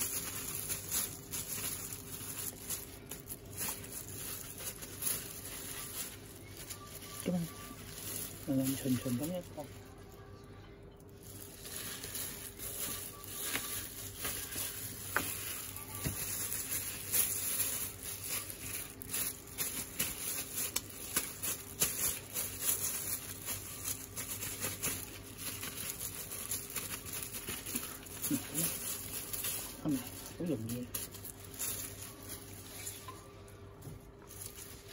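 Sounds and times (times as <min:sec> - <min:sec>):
plastic gloves rustling: 0:00.0 - 0:34.9.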